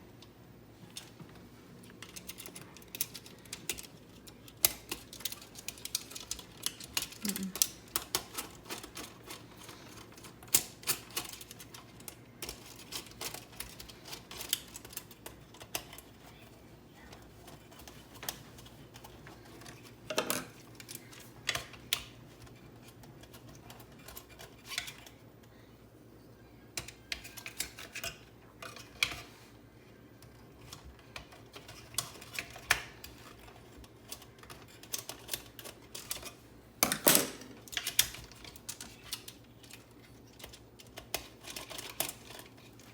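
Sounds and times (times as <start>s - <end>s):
plastic parts clicking and knocking: 0.9s - 16.3s, 17.1s - 25.2s, 30.2s - 42.9s.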